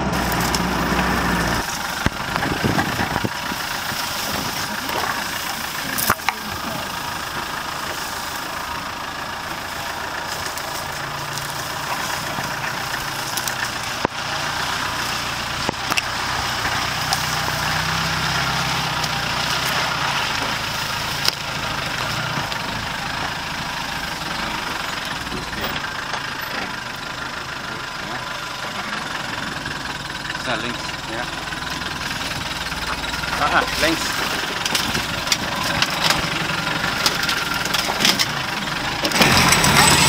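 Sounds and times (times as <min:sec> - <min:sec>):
vehicle knocks and clicks: 0:00.0 - 0:08.3, 0:09.3 - 0:27.4, 0:28.7 - 0:40.0
vehicle engine at low revs: 0:00.0 - 0:40.0.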